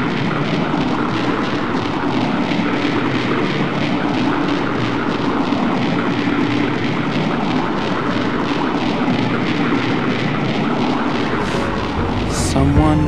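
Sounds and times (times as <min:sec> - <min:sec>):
distorted noise music: 0:00.0 - 0:13.0.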